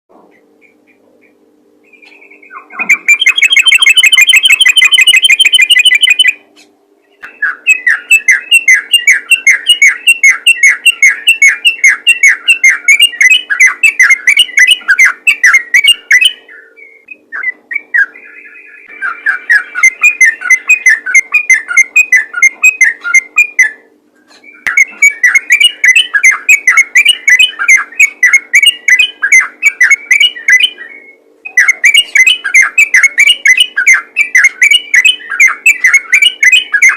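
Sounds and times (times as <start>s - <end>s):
faint steady hum: 0.1s - 36.9s
bulbul chattering song: 0.2s - 36.9s.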